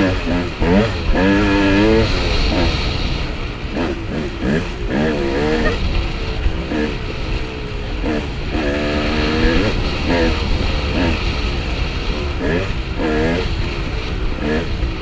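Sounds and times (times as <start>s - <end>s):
dirt bike engine revving: 0.0s - 15.0s
steady low rumble: 0.0s - 15.0s.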